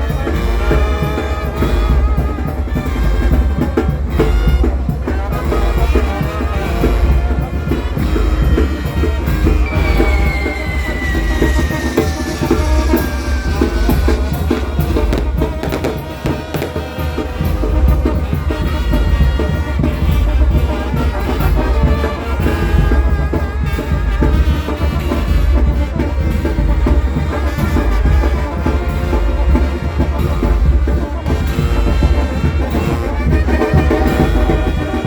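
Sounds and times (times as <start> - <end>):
loud music with drums and bass: 0.0 - 35.0.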